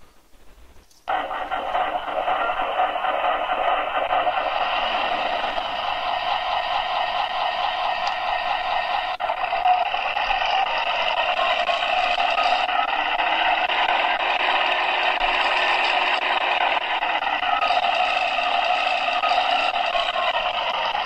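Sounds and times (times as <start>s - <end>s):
tank engine sound effect: 1.1s - 21.0s.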